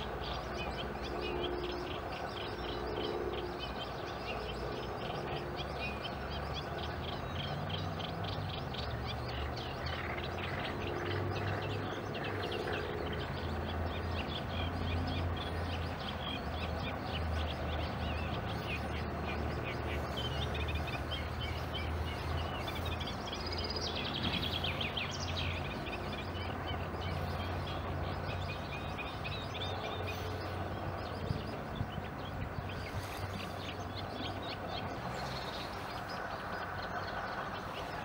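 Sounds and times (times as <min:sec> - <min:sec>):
birds chirping: 0:00.0 - 0:38.0
steady low hum: 0:00.0 - 0:38.0.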